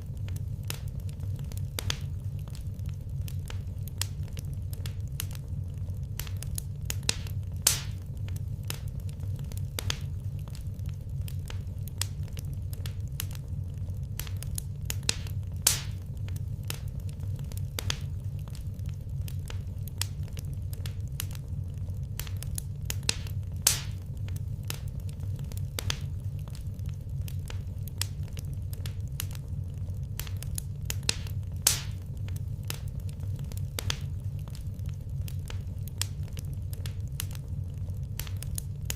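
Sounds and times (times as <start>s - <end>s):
fire popping: 0.0s - 38.9s
wood fire crackling: 0.0s - 38.9s.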